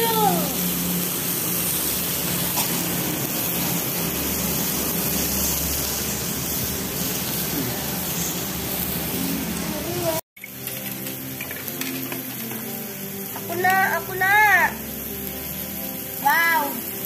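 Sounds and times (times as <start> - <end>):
meat sizzling on a grill plate: 0.0 - 17.0.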